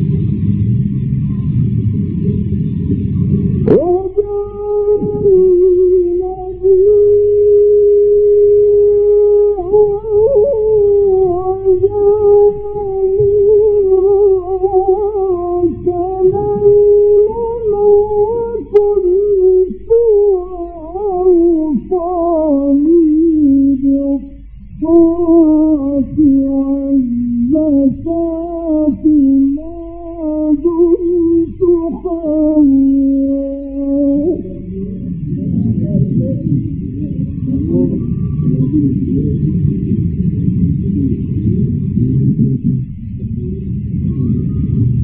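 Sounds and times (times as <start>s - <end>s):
low recording hum: 0.0s - 45.0s
man chanting melodically: 3.6s - 45.0s.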